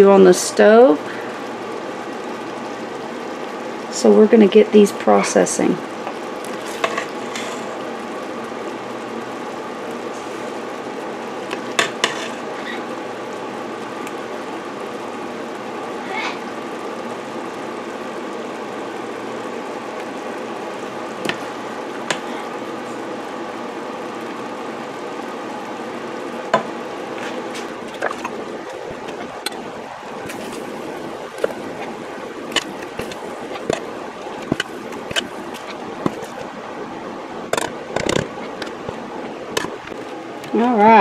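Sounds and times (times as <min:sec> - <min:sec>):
steady rushing hum: 0:00.0 - 0:41.0.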